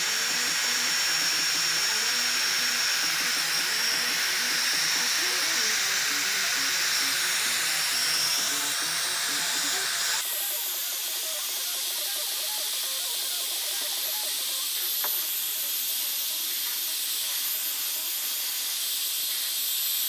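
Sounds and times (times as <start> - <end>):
heat gun hissing air: 0.0 - 20.0.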